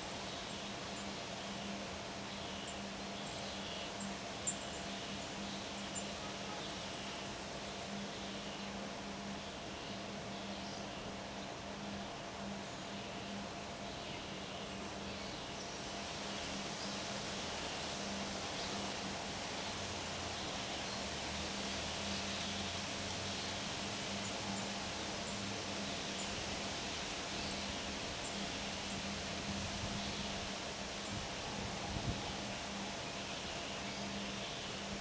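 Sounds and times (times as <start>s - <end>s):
leaves rustling in trees: 0.0s - 35.0s
steady wind: 0.0s - 35.0s.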